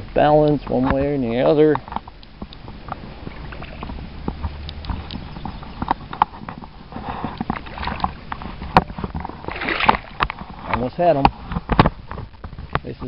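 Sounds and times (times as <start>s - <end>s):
fish thrashing in water: 1.8s - 12.9s.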